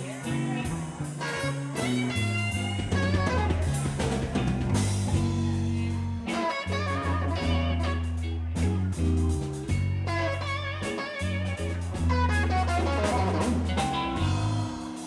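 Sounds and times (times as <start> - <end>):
blues band playing live: 0.0 - 15.0
electric guitar with bent notes: 0.0 - 15.0.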